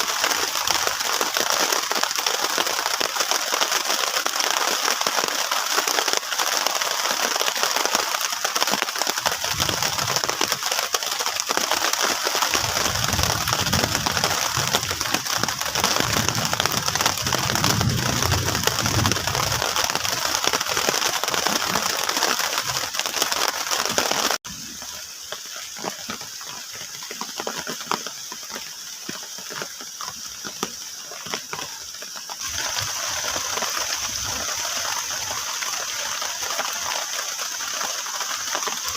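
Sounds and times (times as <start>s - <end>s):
heavy rain on plastic tarp: 0.0s - 38.9s.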